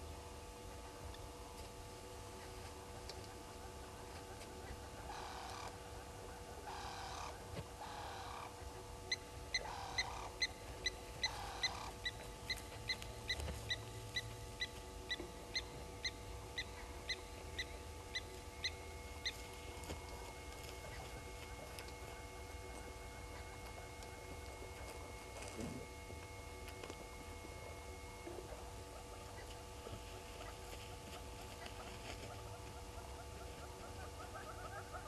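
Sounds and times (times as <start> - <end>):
lapwing alarm call: 3.2 - 25.2, 27.4 - 35.0.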